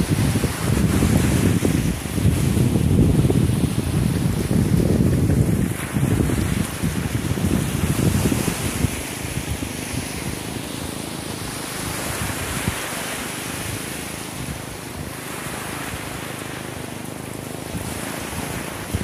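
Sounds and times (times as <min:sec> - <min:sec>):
small waves washing onto beach: 0:00.0 - 0:19.0
wind on microphone: 0:00.0 - 0:19.0.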